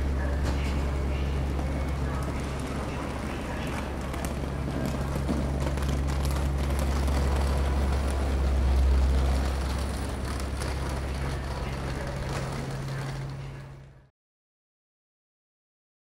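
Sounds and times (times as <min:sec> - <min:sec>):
low hum of a standing train: 0:00.0 - 0:14.1.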